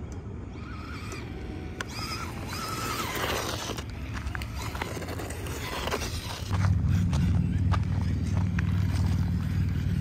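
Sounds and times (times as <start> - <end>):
electric motor whining: 0.0 - 10.0
low outdoor rumble: 0.0 - 10.0.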